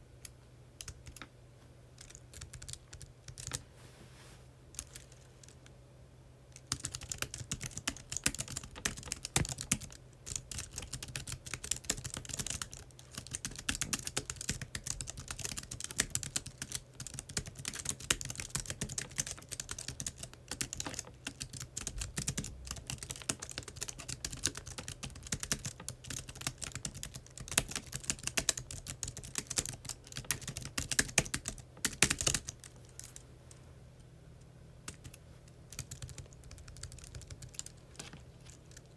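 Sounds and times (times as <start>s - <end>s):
faint low hum: 0.0s - 38.9s
computer keyboard typing: 0.2s - 1.3s, 2.0s - 3.6s, 6.5s - 33.2s, 34.8s - 38.9s.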